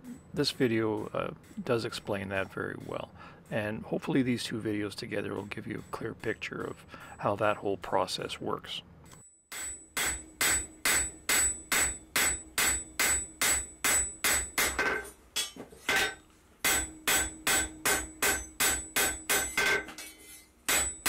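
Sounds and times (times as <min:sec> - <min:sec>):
hammer striking steel on anvil: 0:00.6 - 0:06.8, 0:09.5 - 0:21.0.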